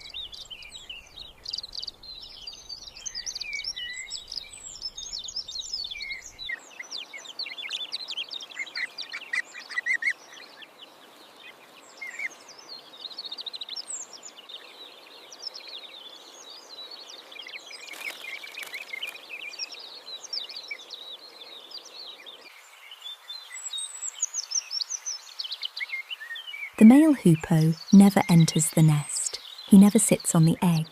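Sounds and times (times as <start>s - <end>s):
faint background hiss: 0.0s - 30.9s
small birds chirping: 0.0s - 30.9s.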